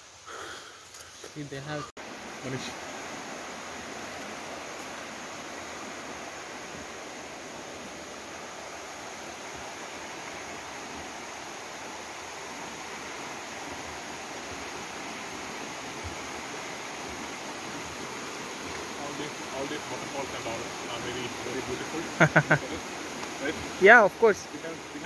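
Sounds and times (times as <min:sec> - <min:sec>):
creek water over rocks: 0:00.0 - 0:25.0.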